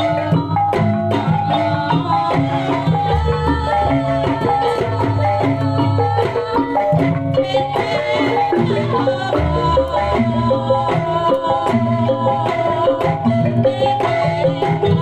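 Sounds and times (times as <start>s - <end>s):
hand drums: 0.0s - 15.0s
metal-keyed percussion melody: 0.0s - 15.0s.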